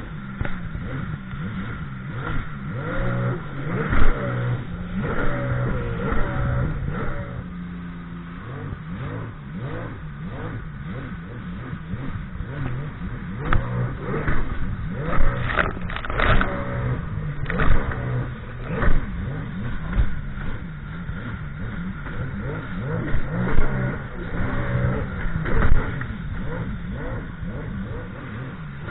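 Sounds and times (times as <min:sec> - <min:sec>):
watercraft engine revving: 0:00.0 - 0:28.9.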